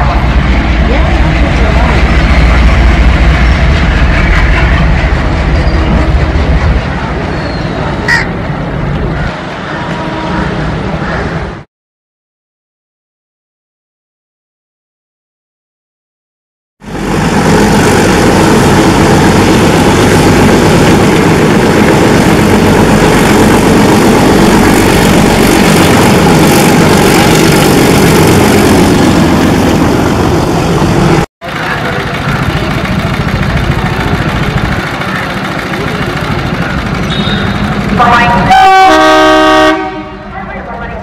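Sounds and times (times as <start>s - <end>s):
diesel locomotive engine chugging: 0.0s - 11.6s, 16.9s - 41.0s.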